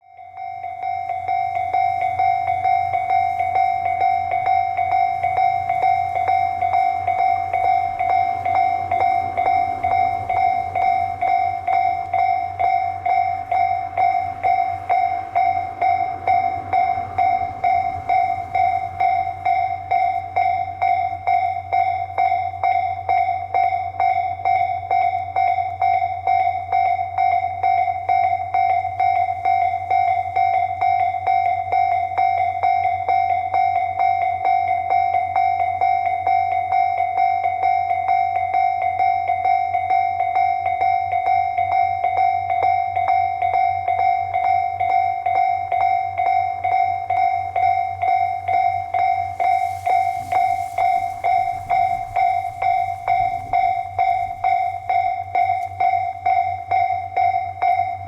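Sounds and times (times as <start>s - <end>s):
level crossing warning bell: 0.0s - 58.0s
locomotive low rumble: 0.0s - 58.0s.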